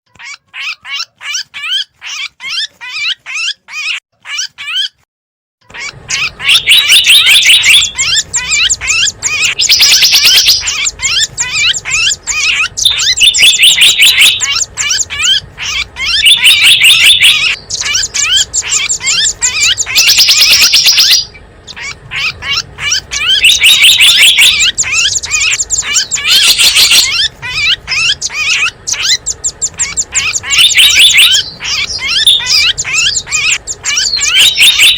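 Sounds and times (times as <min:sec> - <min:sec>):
songbirds chirping and twittering: 0:00.1 - 0:05.0, 0:05.6 - 0:34.9.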